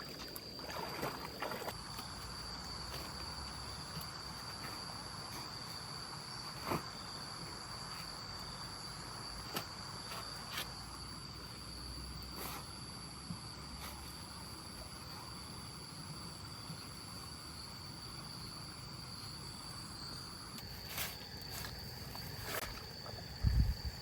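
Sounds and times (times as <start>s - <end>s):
crickets droning: 0.0s - 24.0s.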